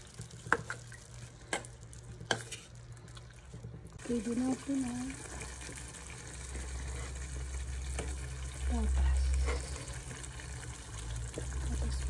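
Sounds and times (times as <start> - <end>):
stew simmering and sizzling: 0.0 - 12.0.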